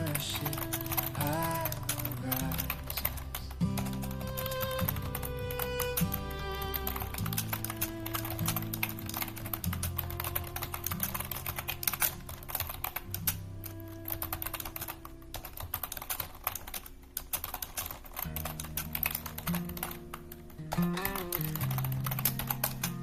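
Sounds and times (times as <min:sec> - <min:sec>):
soft instrumental music: 0:00.0 - 0:16.0, 0:18.3 - 0:23.0
computer keyboard typing: 0:00.0 - 0:23.0.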